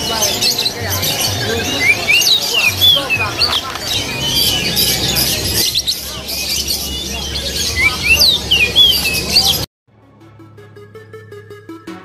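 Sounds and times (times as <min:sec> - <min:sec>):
bird singing whistles: 0:00.0 - 0:09.7
low background murmur: 0:00.0 - 0:09.7.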